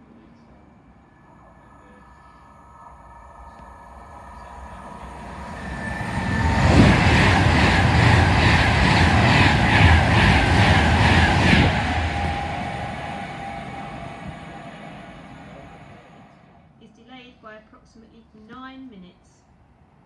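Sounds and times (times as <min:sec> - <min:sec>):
electric train passing at speed: 0:00.0 - 0:16.8.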